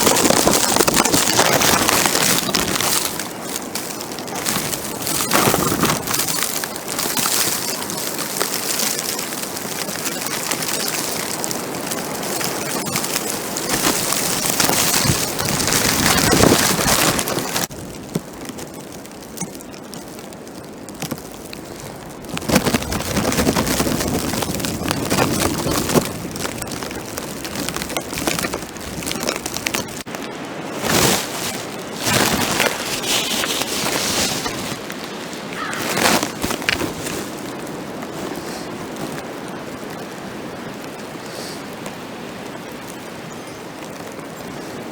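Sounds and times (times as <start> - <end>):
plastic bag crinkling on microphone: 0.0 - 41.6.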